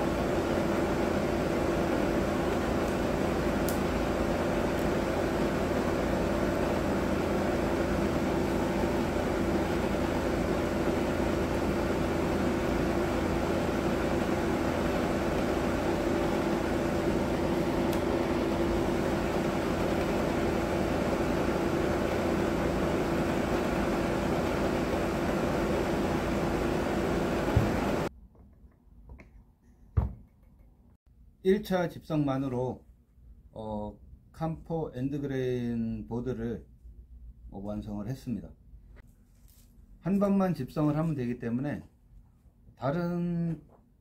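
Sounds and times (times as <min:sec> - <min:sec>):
fan whirring hum: 0:00.0 - 0:44.0.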